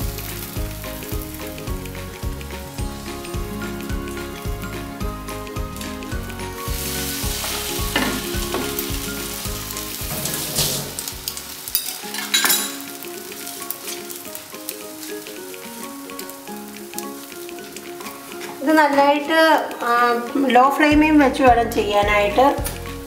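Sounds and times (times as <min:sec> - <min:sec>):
bread sizzling in butter: 0:00.0 - 0:20.4.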